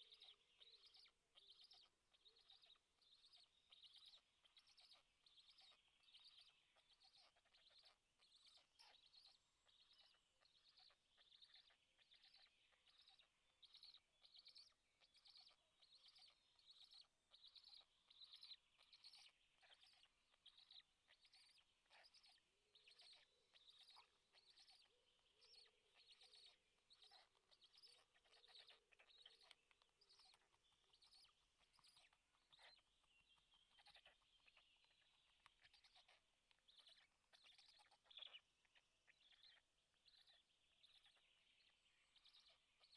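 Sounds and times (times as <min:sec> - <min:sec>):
high bird chirps: 0:00.0 - 0:42.9.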